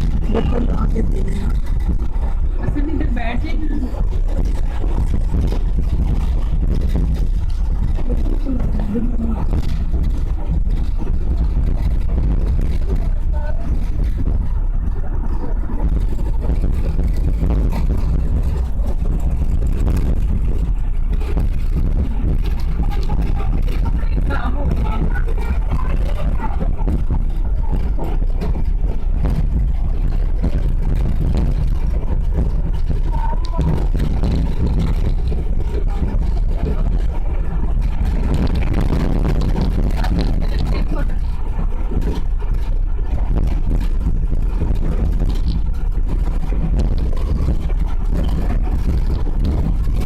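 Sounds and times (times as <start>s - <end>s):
train rumbling: 0.0s - 50.0s.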